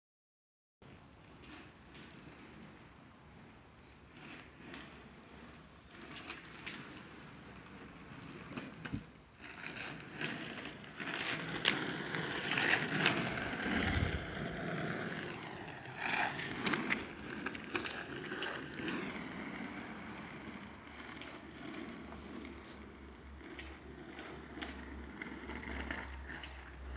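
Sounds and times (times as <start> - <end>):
skateboard wheels rolling on asphalt: 0.8 - 26.9.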